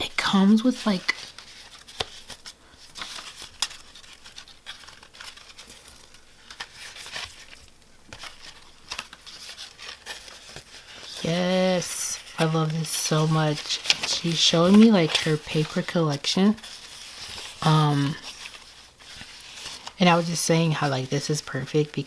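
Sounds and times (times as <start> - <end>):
paper rustling and crinkling: 0.0 - 22.0.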